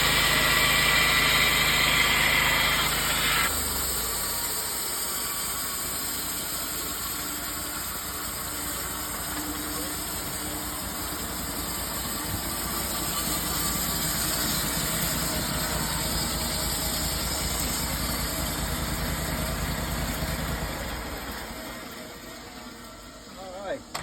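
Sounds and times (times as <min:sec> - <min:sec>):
sawmill engine cutting wood: 0:00.0 - 0:24.0.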